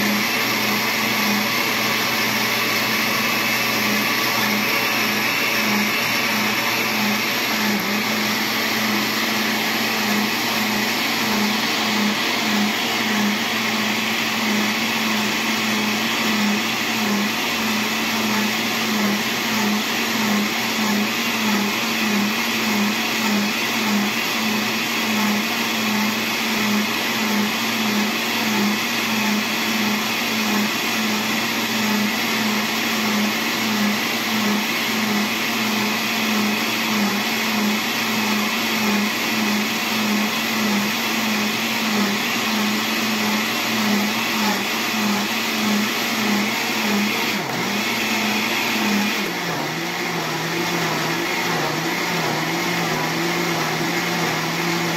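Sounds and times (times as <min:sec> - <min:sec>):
blender running: 0:00.0 - 0:54.9.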